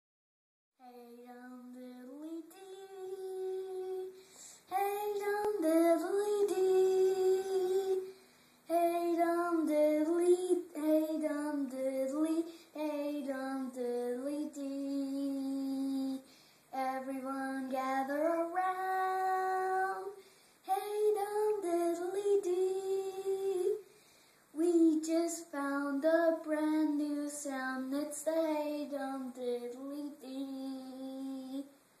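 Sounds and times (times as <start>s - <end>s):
boy singing unaccompanied: 0.8s - 8.1s, 8.7s - 23.8s, 24.6s - 31.8s.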